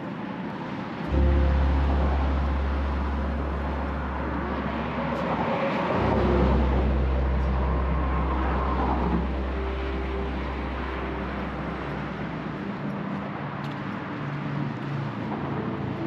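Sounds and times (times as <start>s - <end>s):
road traffic: 0.0s - 16.0s
steady low rumble: 1.1s - 14.3s.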